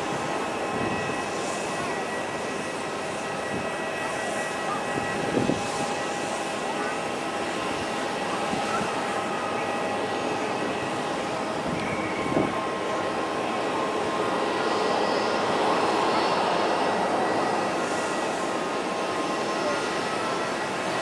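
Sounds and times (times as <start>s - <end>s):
jet engines rushing and whining: 0.0s - 21.0s.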